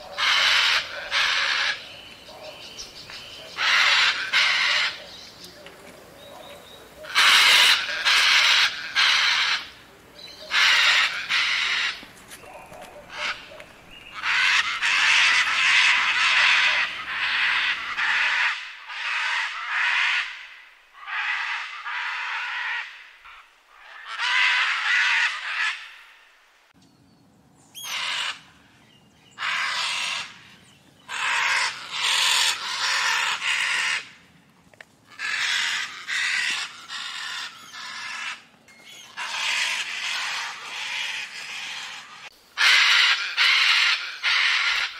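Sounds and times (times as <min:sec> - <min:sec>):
macaws screaming: 0:00.0 - 0:05.3, 0:06.4 - 0:26.2, 0:27.8 - 0:28.6, 0:29.4 - 0:34.2, 0:35.1 - 0:44.9.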